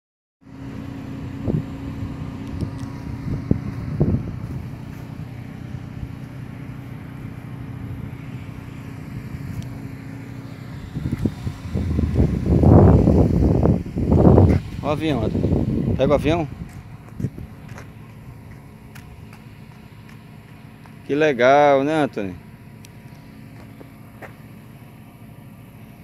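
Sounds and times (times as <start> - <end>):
low engine-like hum: 0.4 - 26.0.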